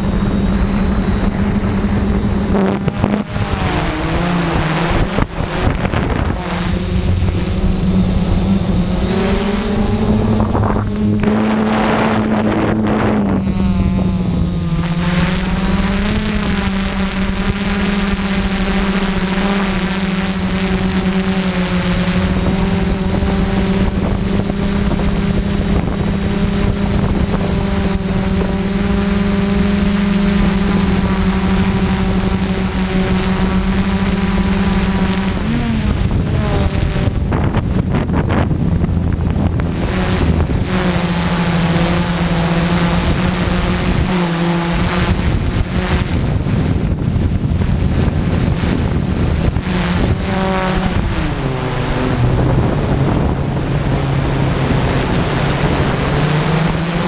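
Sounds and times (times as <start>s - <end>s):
drone motors humming: 0.0s - 57.0s
rough rushing noise: 0.0s - 57.0s.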